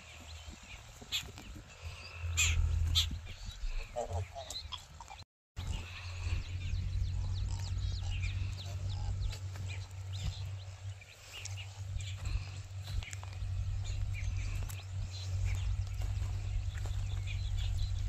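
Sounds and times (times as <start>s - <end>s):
birds chirping: 0.0s - 18.0s
steady low rumble: 1.7s - 5.0s, 5.6s - 18.0s.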